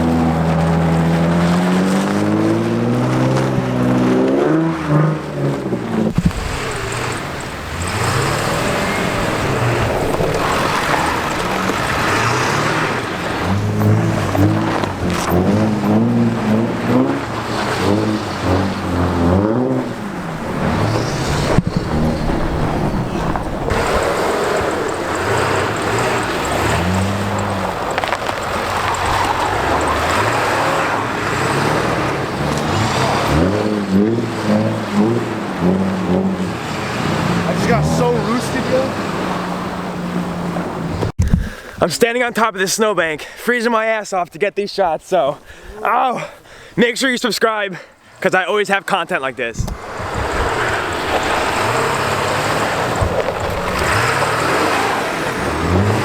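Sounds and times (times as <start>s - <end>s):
tyres spraying snow: 0.0s - 41.1s, 49.7s - 56.0s
car engine revving: 0.0s - 41.2s, 49.6s - 56.0s.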